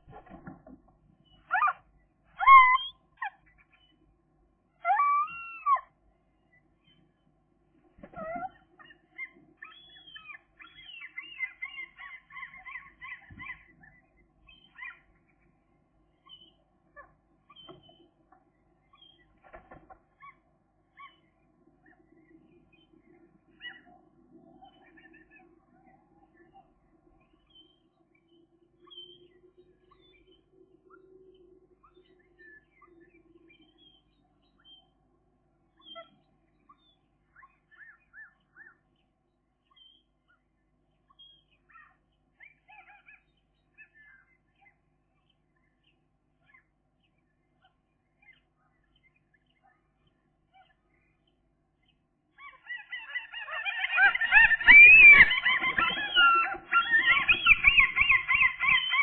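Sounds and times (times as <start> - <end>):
bird chirps: 2.4 - 4.0, 8.1 - 15.6, 16.2 - 35.0, 35.7 - 59.0.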